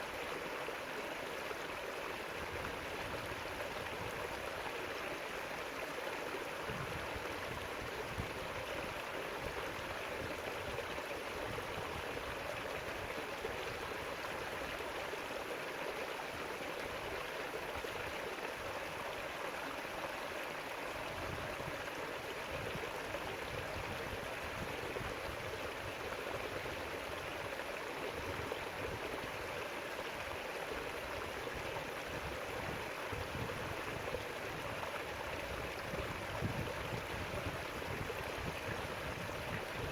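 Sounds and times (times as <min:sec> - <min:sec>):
river water rushing over stones: 0:00.0 - 0:39.9.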